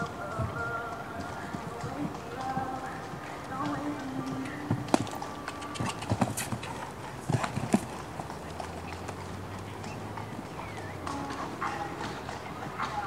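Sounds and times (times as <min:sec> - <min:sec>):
horse hoofbeats on sand: 0:00.0 - 0:13.0.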